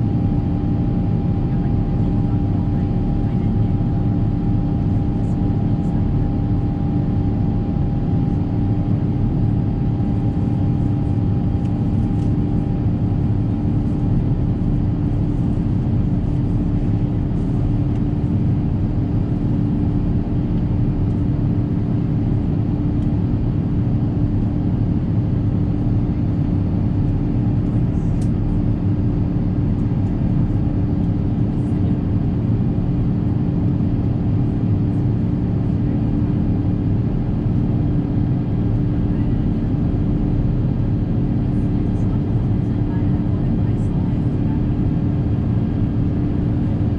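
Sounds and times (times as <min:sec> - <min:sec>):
aircraft cabin roar: 0:00.0 - 0:46.9
constant hum: 0:00.0 - 0:46.9.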